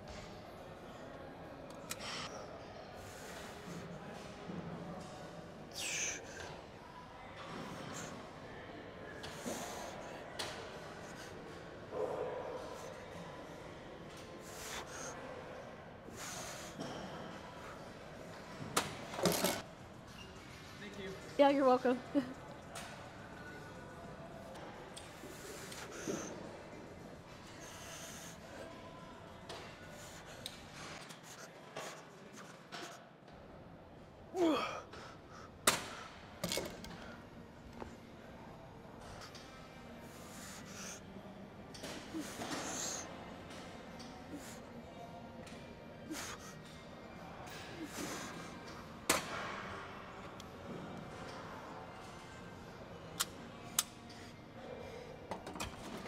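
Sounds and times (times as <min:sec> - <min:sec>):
background noise: 0:00.0 - 0:56.0.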